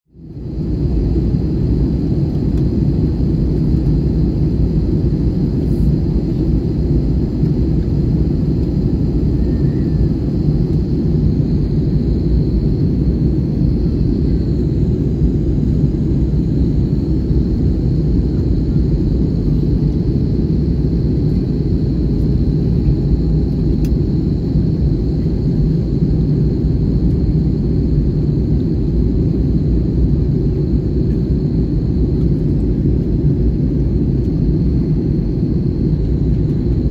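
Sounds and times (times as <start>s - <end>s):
jet engine cabin rumble: 0.1s - 36.9s
faint high whine: 0.2s - 36.9s.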